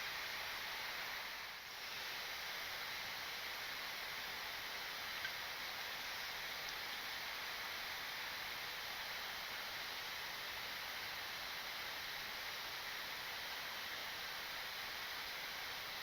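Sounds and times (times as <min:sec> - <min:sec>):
air-conditioning hiss: 0:00.0 - 0:16.0.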